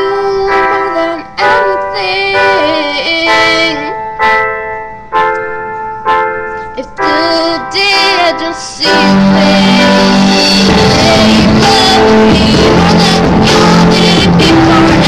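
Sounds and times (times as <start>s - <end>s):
person singing: 0.0s - 4.0s, 6.8s - 15.0s
keyboard: 0.0s - 15.0s.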